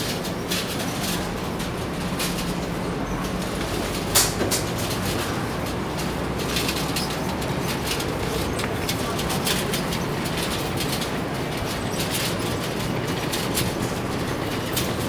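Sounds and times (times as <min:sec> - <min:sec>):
market rumble: 0:00.0 - 0:15.0.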